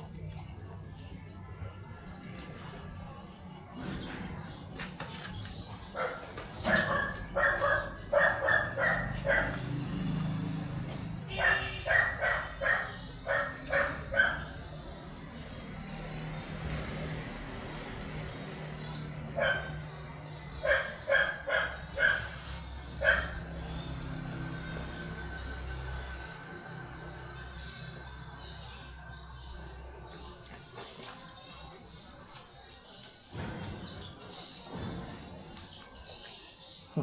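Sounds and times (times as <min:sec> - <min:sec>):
dogs barking: 0:00.0 - 0:15.6, 0:18.6 - 0:37.0.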